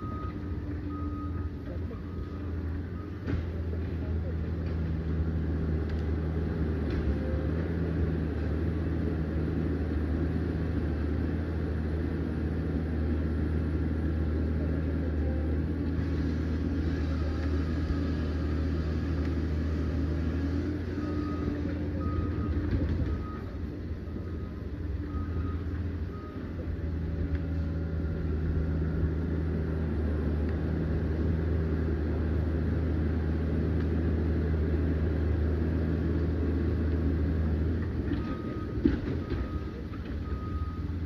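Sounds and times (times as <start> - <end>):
dozer diesel engine under load: 0.0 - 41.0.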